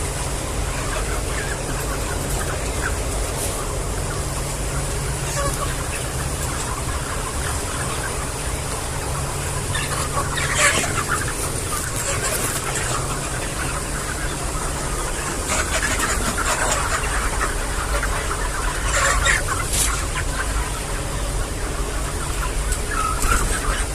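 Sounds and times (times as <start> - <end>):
chickens clucking and calling: 0.0 - 23.9.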